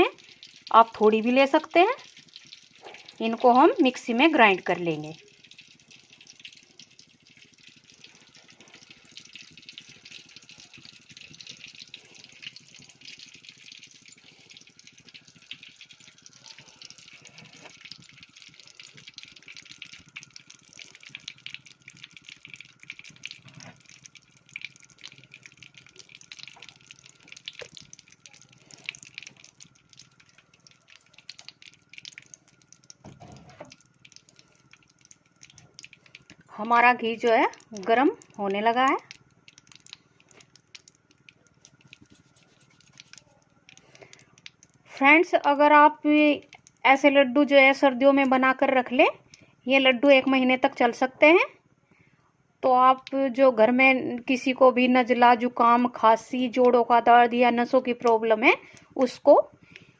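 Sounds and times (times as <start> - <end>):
ghee sizzling with crackles: 0.0 - 59.9.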